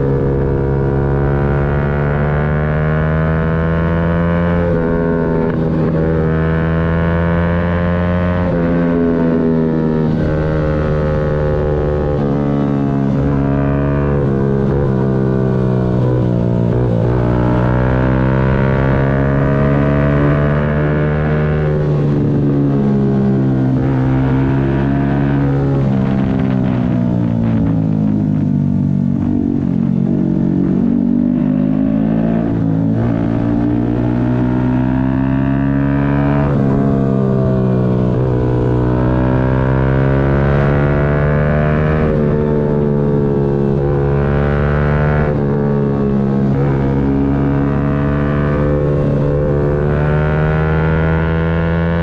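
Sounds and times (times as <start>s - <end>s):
motorcycle engine at high revs: 0.0s - 52.0s.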